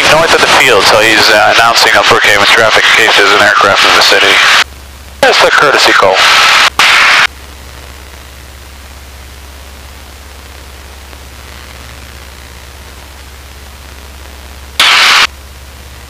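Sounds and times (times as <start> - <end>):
faint engine drone: 0.0 - 16.0
intercom hiss and hum: 0.0 - 16.0.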